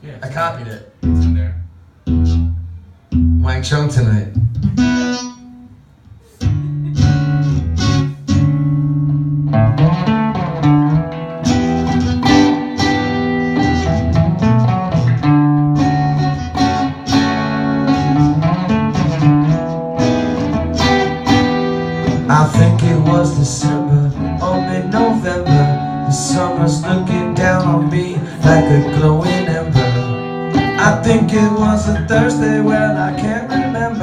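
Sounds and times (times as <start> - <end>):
acoustic guitar strumming: 0.9 - 3.5, 4.3 - 34.0.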